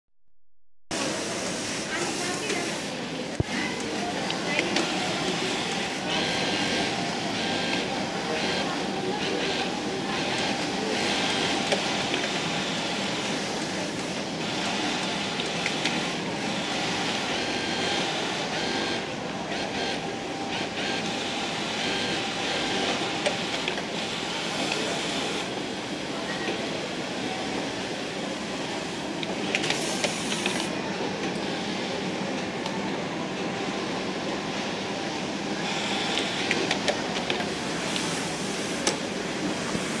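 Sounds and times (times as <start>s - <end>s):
factory sewing machines din: 0.9s - 40.0s.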